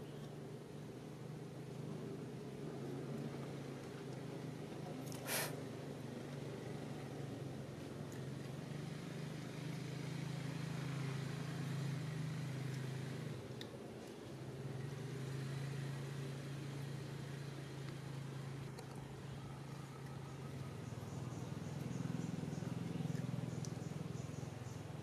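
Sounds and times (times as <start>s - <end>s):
low motor hum: 0.0s - 25.0s.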